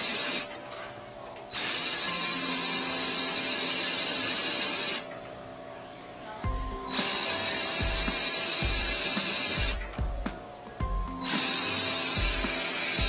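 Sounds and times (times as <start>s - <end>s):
drain cleaning machine running: 1.5s - 13.0s.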